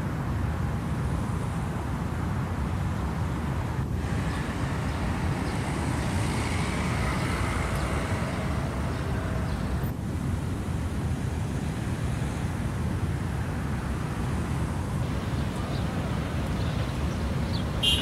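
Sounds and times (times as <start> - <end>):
rumble of passing cars: 0.0 - 18.0.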